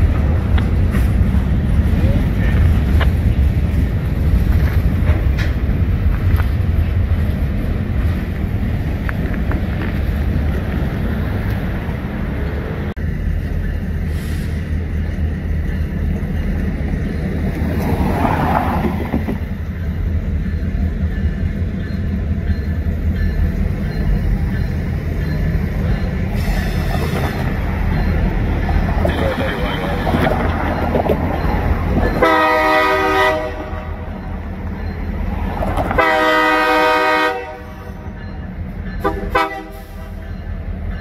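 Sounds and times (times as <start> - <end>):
locomotive engine rumble: 0.0 - 41.0.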